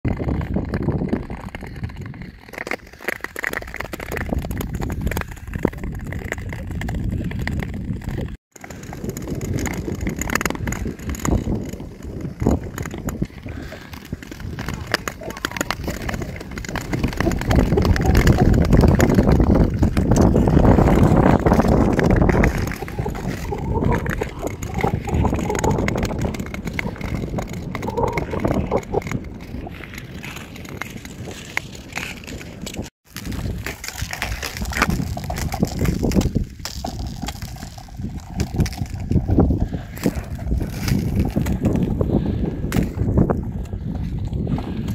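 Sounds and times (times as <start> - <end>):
wind rumble on microphone: 0.1 - 2.6, 3.6 - 44.9
skate blades scraping ice: 0.1 - 44.9.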